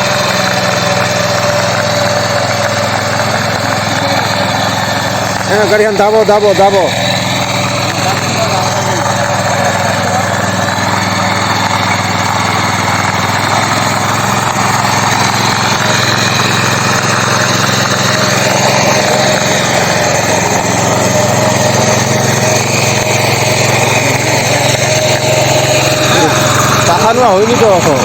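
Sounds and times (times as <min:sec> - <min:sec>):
power tiller engine running: 0:00.0 - 0:28.0.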